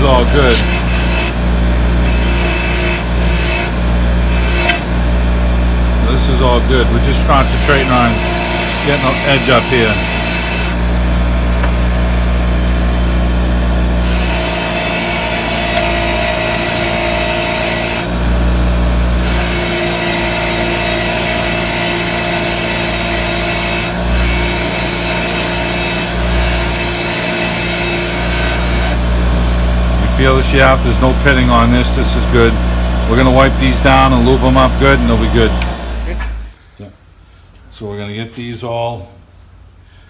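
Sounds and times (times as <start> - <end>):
bench grinder motor hum: 0.0 - 36.5.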